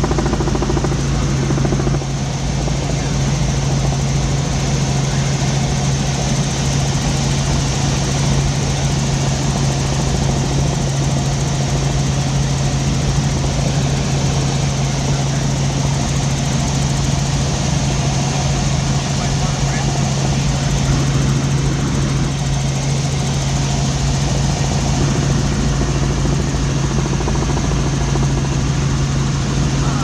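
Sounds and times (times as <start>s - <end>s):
helicopter engine and rotor drone: 0.0s - 30.0s.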